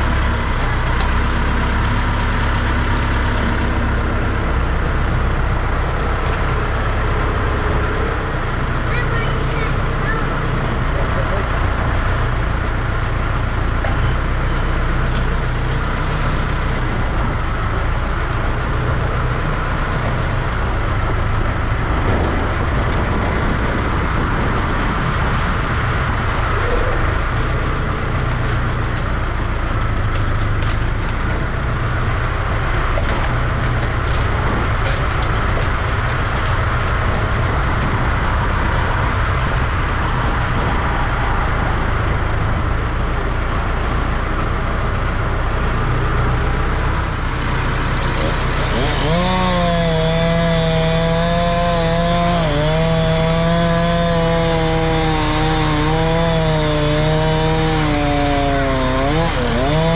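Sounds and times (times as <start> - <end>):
engine running with low drone: 0.0 - 59.9.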